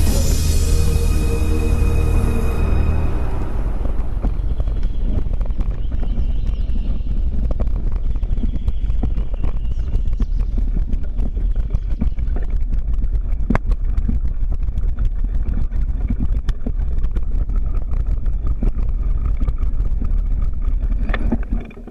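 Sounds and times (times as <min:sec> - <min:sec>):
wind buffeting microphone: 0:02.2 - 0:21.9.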